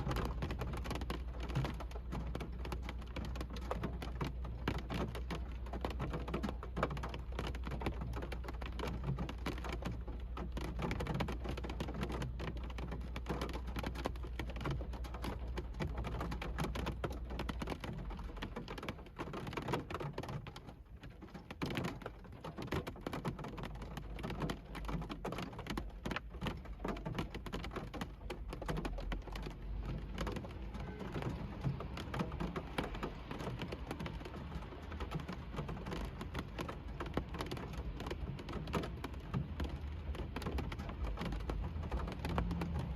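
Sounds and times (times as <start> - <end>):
rain drumming on car roof: 0.0 - 42.9.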